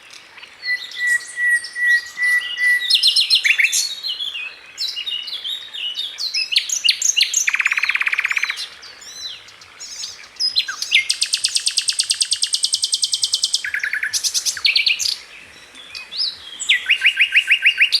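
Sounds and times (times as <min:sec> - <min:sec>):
songbird singing with trills: 0:00.0 - 0:18.0.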